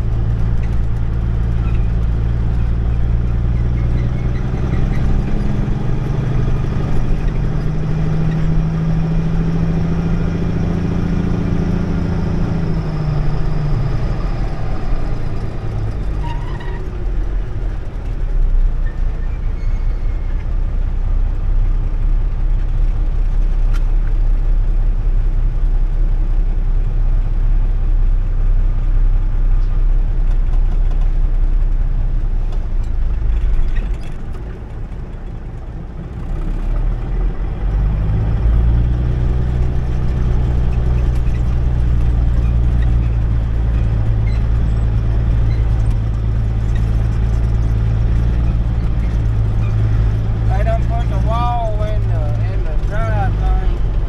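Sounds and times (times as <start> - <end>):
truck engine from inside cab: 0.0 - 54.0.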